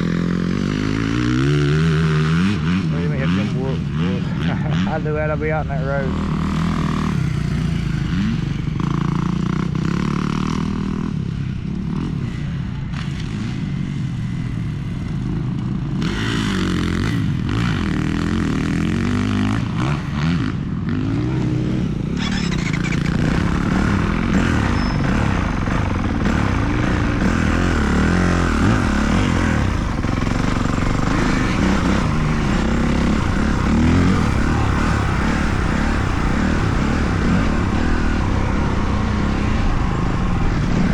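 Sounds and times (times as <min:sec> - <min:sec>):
dirt bike engine revving: 0:00.0 - 0:14.6, 0:15.9 - 0:40.9.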